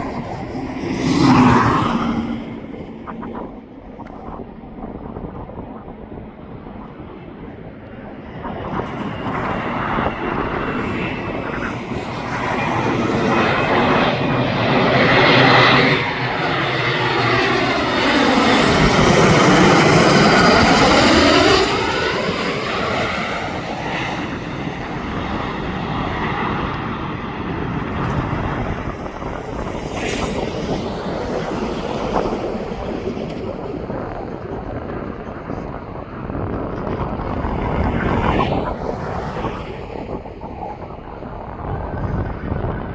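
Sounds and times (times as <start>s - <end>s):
airplane passing close by: 0.0s - 42.9s.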